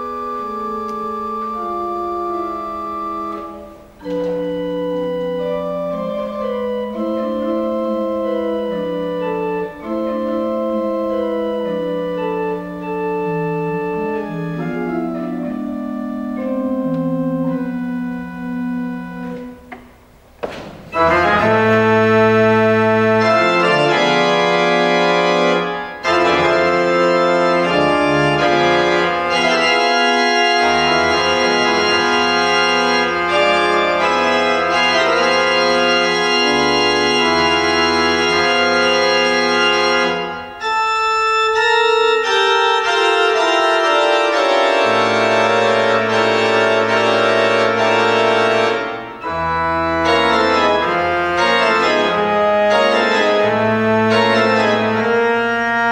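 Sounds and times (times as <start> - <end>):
pipe organ chords: 0.0 - 55.9.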